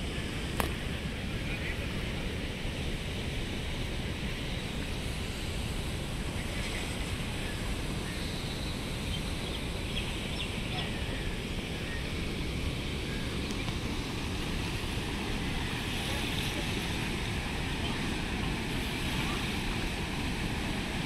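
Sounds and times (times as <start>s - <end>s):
river water rushing: 0.0s - 21.0s
wind on microphone: 0.0s - 21.0s.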